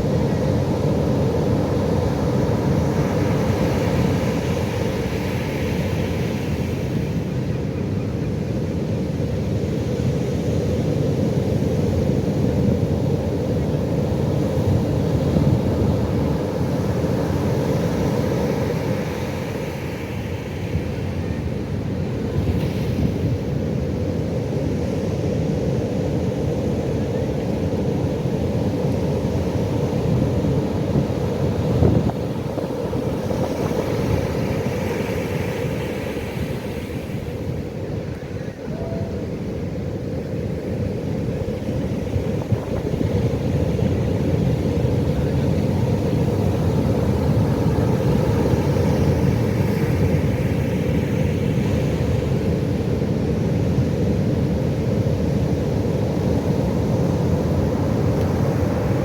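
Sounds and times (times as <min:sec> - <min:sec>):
waves washing in with hiss: 0:00.0 - 0:07.8, 0:09.0 - 0:59.0.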